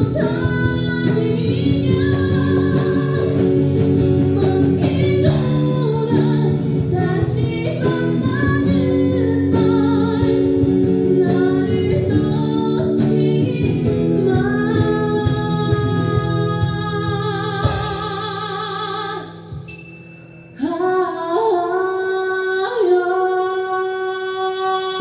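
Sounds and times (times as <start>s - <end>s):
woman singing a slow ballad: 0.0s - 19.7s, 20.6s - 25.0s
guitar: 0.0s - 25.0s.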